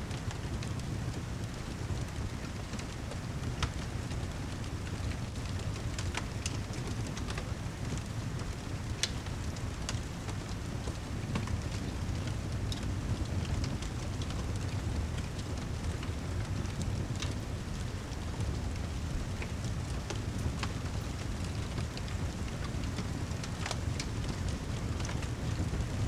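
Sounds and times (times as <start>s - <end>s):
fire crackles and ticks: 0.0s - 26.0s
wood fire rumbling: 0.0s - 26.0s.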